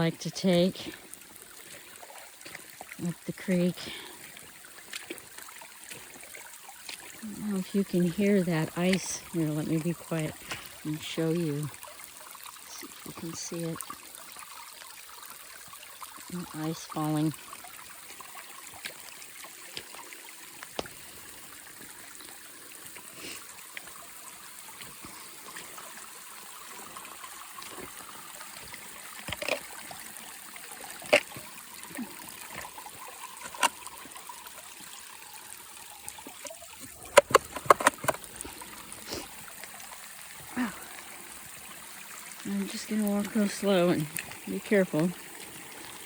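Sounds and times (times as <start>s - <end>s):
creek water trickling: 0.0s - 46.0s.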